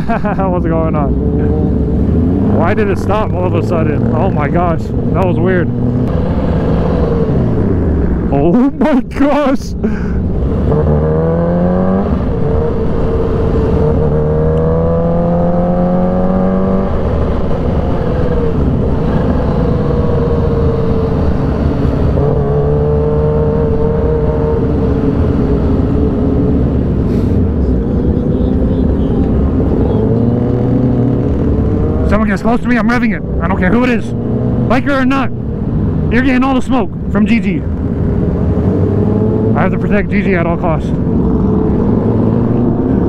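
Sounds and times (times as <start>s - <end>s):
motorcycle engine cruising: 0.0s - 43.0s.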